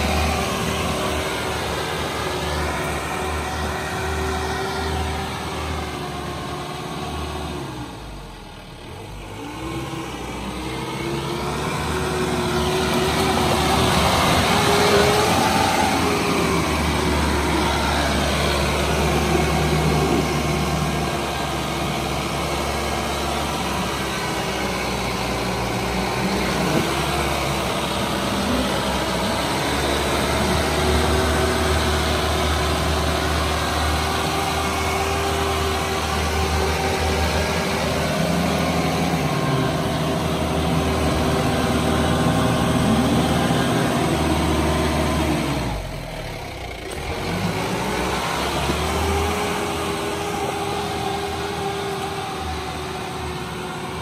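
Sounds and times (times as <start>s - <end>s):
diesel engine revving under load: 0.0s - 54.0s.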